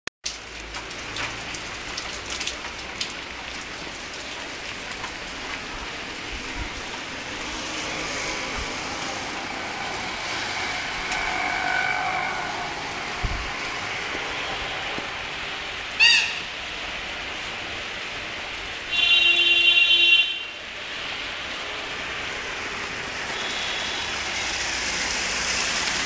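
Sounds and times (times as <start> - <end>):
heavy rain on standing water: 0.2 - 26.0.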